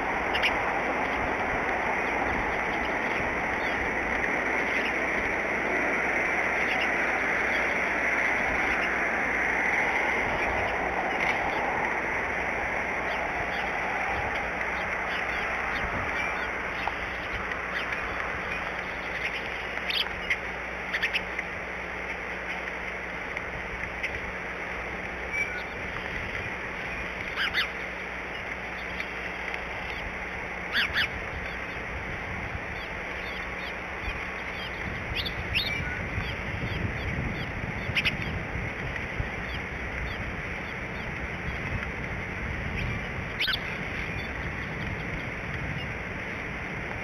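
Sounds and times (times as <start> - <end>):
bird calls: 0.0 - 23.0, 25.2 - 46.5
cold rain hissing: 0.0 - 47.0.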